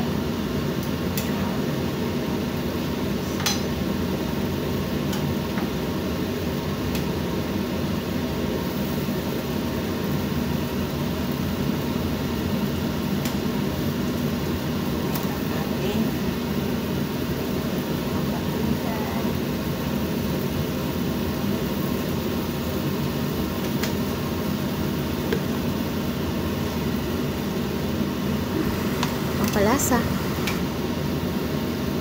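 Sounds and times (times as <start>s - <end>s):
low hum and rush: 0.0s - 32.0s.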